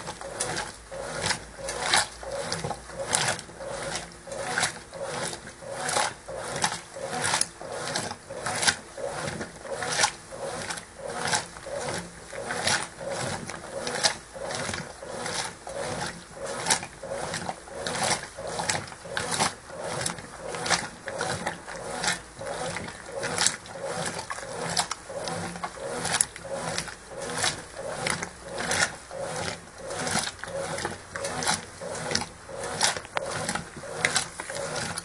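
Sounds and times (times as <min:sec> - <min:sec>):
washing machine agitating: 0:00.0 - 0:35.0.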